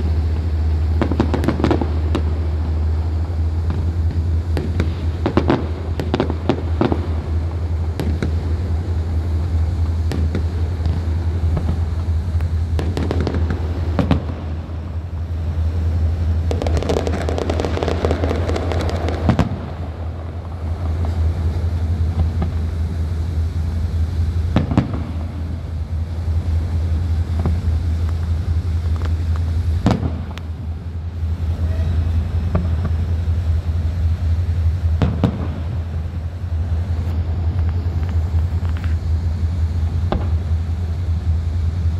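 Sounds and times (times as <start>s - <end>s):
firework bangs: 0.0s - 41.9s
firework crackling: 0.0s - 41.9s
low hum: 0.0s - 41.9s.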